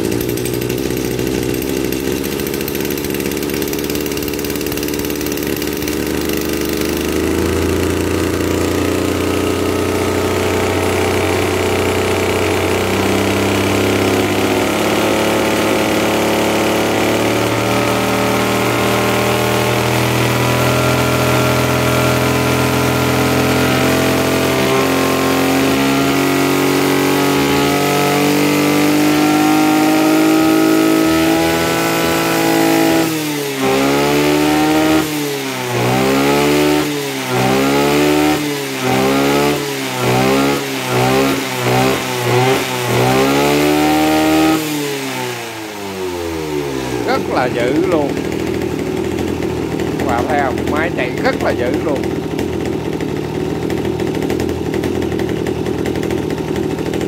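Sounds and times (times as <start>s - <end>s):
brush cutter engine running: 0.0s - 57.0s.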